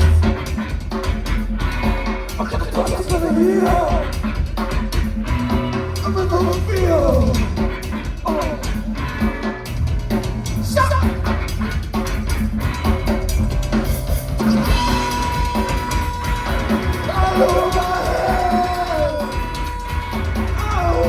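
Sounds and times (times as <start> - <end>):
drum kit beats: 0.0 - 21.0
live rock band playing: 0.0 - 21.0
sustained bass: 0.0 - 21.0.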